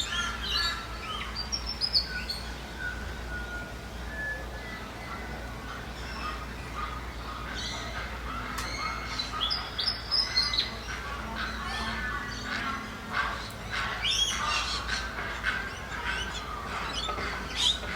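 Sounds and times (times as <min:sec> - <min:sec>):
birds chirping and calling: 0:00.0 - 0:03.8, 0:04.4 - 0:17.9
low background rumble: 0:00.0 - 0:17.9.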